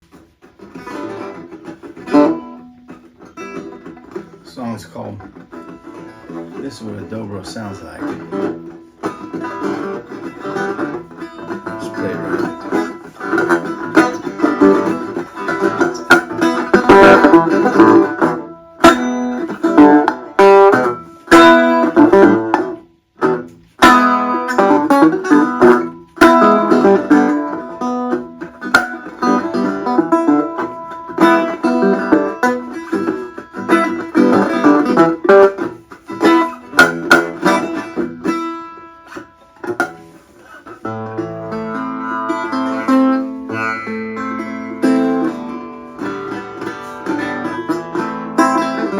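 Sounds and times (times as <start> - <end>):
resonator guitar picking: 0.0 - 48.9.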